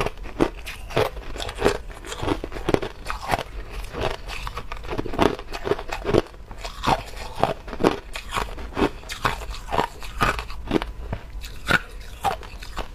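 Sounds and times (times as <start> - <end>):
ice crunching between teeth: 0.0 - 12.9.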